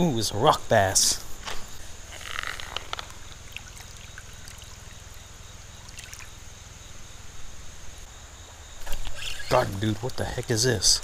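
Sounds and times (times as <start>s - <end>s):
river water running: 0.8s - 11.0s.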